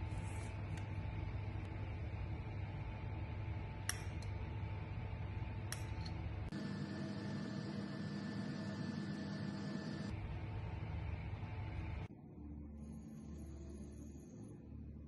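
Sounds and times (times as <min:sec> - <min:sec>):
background hum with held tones: 0:00.0 - 0:15.0.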